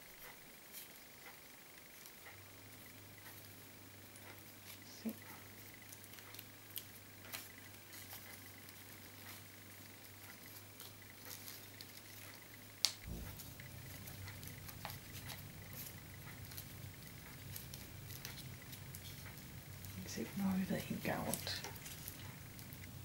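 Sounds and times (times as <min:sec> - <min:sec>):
paper tubes rustling and ticking: 0:00.0 - 0:23.0.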